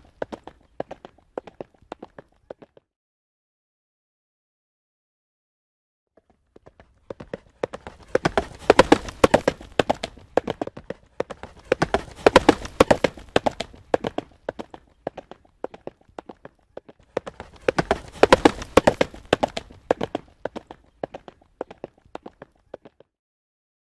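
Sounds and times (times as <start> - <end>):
horse hooves galloping: 0.0 - 2.8, 6.2 - 23.1.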